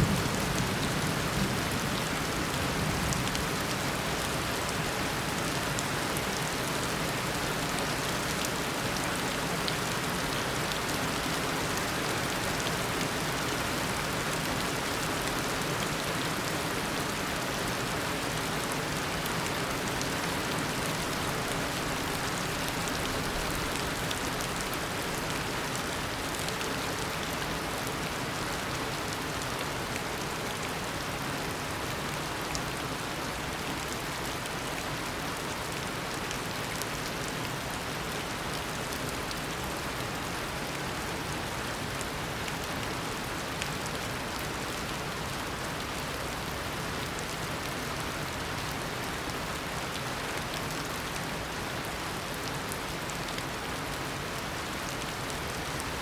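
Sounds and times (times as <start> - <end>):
heavy rain downpour: 0.0 - 56.0.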